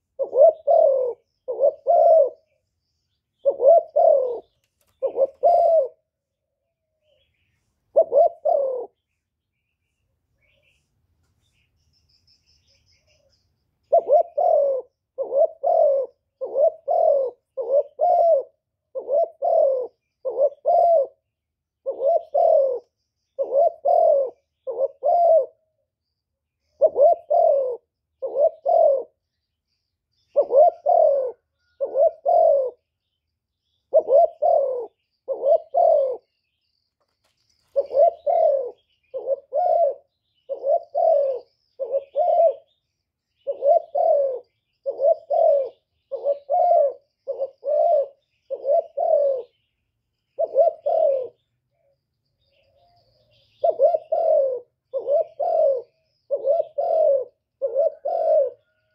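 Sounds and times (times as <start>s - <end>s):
dove cooing: 0.0s - 6.2s, 7.0s - 9.0s, 12.7s - 25.8s, 26.6s - 29.3s, 30.2s - 32.9s, 33.6s - 36.4s, 37.2s - 49.7s, 50.3s - 58.9s.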